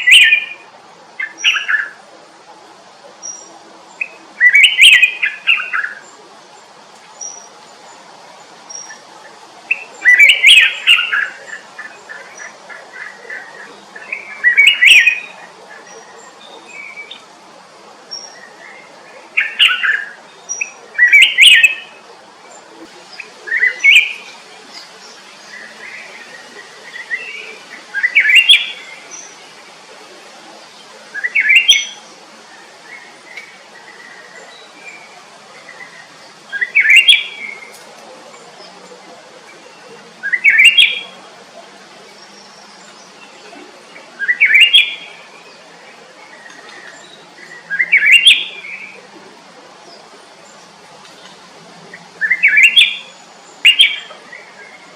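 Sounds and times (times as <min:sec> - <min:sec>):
songbirds warbling: 0:00.0 - 0:54.9.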